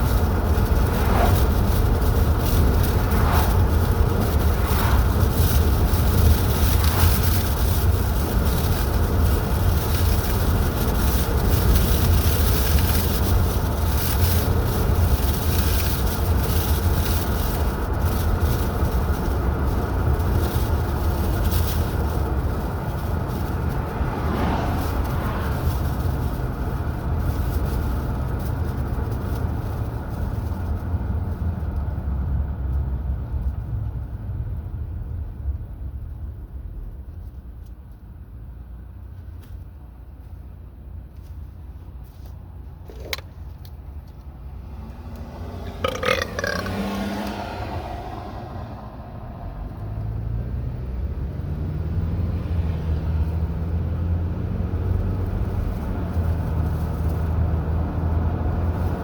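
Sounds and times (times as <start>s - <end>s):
car engine and tyres rumbling: 0.0s - 59.0s
road and wind noise hiss: 0.0s - 59.0s.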